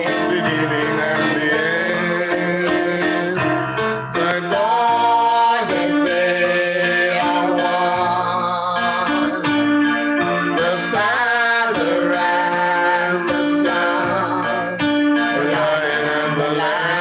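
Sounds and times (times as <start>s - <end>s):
person singing: 0.0s - 17.0s
worship song music: 0.0s - 17.0s.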